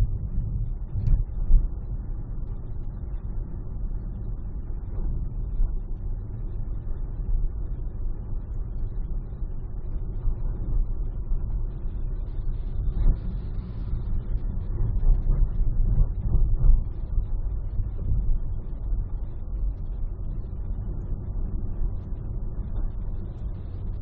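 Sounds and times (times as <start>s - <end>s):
car driving at freeway speed: 0.0s - 24.0s.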